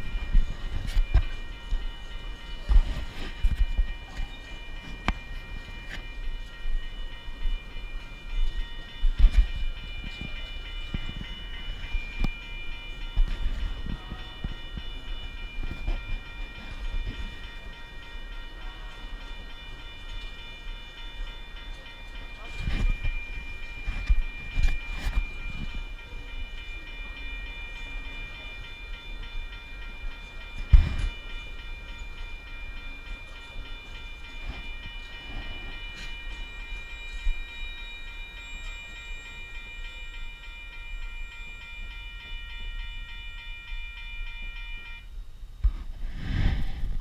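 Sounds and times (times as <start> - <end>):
train wagons clunking: 0.0 - 40.7
crossing warning bell ringing: 0.0 - 47.0
freight train rumbling: 0.0 - 47.0.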